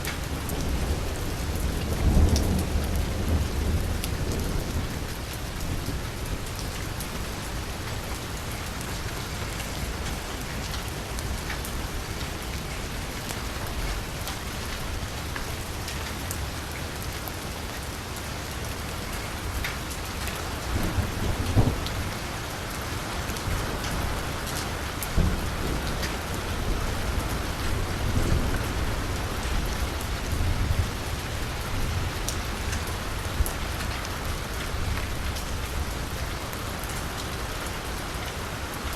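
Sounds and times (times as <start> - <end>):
rain falling on a street: 0.0 - 38.9.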